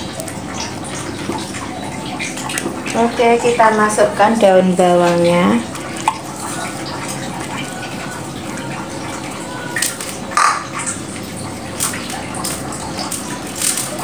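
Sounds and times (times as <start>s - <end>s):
pot boiling and bubbling: 0.0s - 14.0s.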